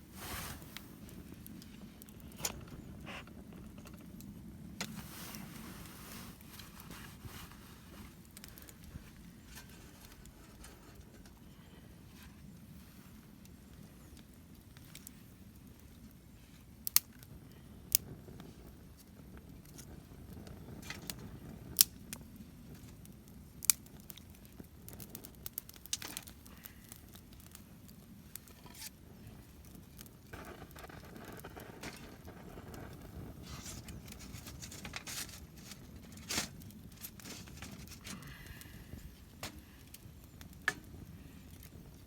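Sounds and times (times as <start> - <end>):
campfire crackling and popping: 0.1 - 42.0.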